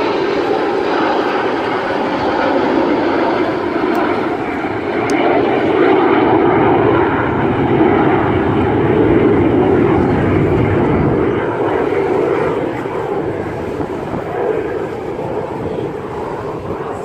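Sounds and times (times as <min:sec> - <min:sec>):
aircraft engine overhead: 0:00.0 - 0:17.0.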